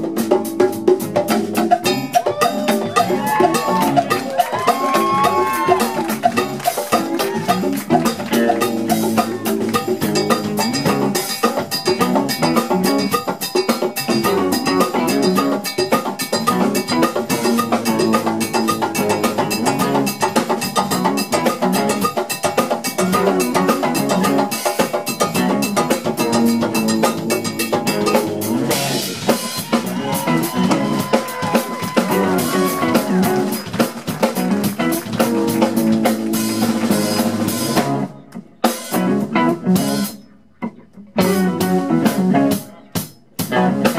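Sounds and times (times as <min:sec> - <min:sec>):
congas and hand percussion: 0:00.0 - 0:39.0
funk band playing: 0:00.0 - 0:43.9.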